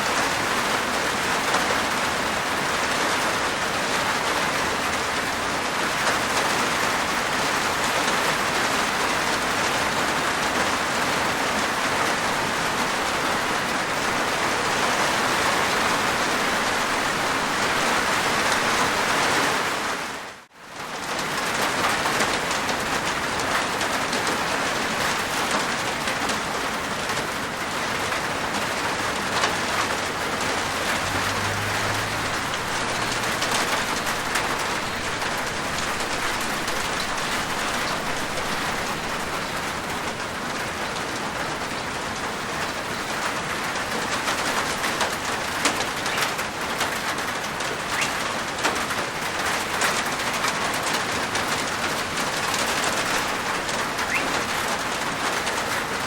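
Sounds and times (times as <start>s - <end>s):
rain on a rooftop: 0.0s - 56.0s.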